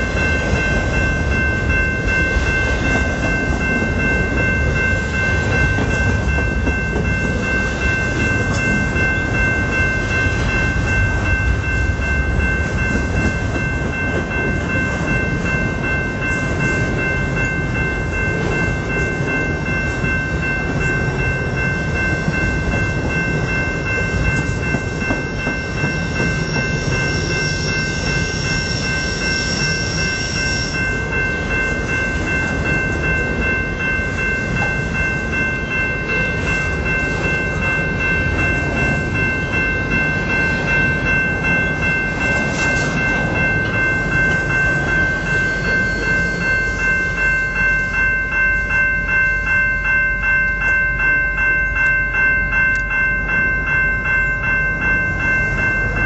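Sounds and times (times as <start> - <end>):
freight train rolling past: 0.0 - 56.0
level-crossing warning bell: 0.0 - 56.0.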